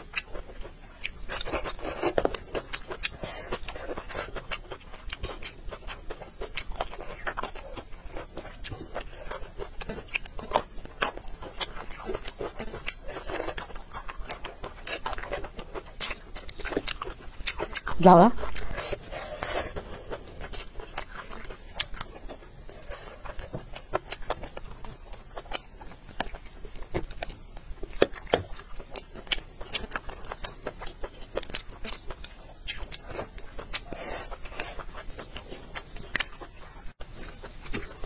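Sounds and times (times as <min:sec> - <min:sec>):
person chewing crunchy food: 0:00.0 - 0:38.0.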